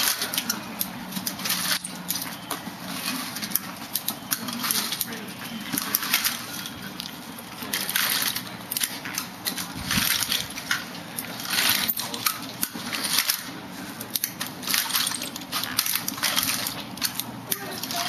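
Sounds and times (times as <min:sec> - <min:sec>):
walker feet scraping on concrete: 0:00.0 - 0:18.0
walker frame clicks and rattles: 0:00.0 - 0:18.0.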